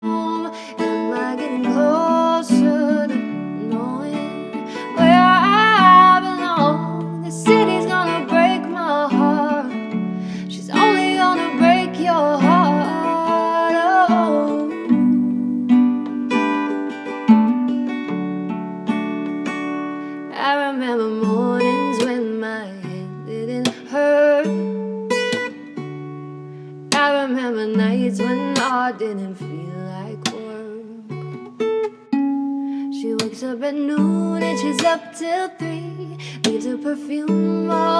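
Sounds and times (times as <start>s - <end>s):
woman singing: 0.0s - 16.7s, 20.2s - 25.6s, 26.9s - 31.3s, 32.8s - 37.9s
acoustic guitar: 0.0s - 37.9s.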